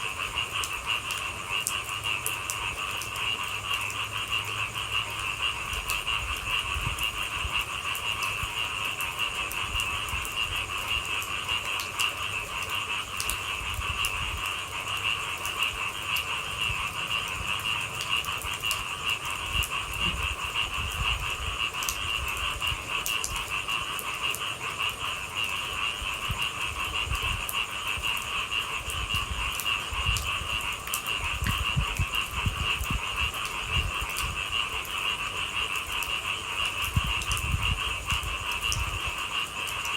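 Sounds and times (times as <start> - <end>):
frogs calling: 0.0 - 39.9
light raindrop ticks: 0.0 - 39.9.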